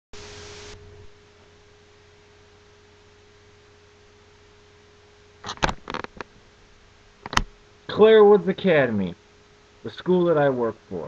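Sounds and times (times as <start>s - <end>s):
faint steady hum: 0.2s - 11.0s
low background hiss: 0.2s - 11.0s.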